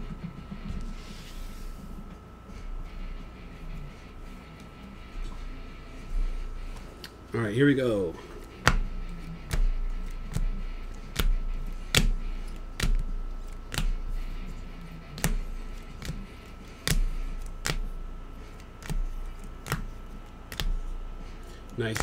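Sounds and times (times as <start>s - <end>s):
faint steady whine: 0.0s - 22.0s.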